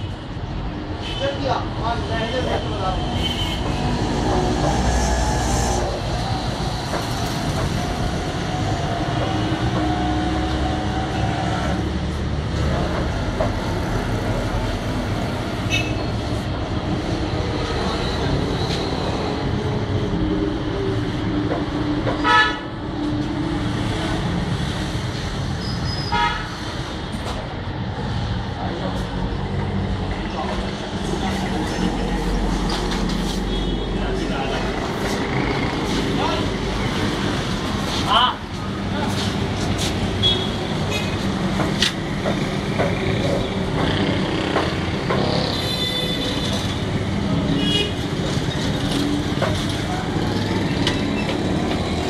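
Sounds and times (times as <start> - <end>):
traffic noise: 0.0 - 52.0.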